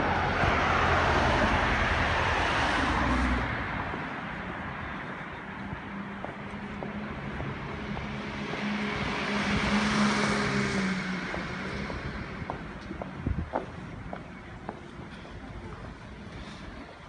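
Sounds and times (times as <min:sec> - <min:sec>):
street noise: 0:00.0 - 0:17.0
vehicle passing: 0:00.0 - 0:17.0.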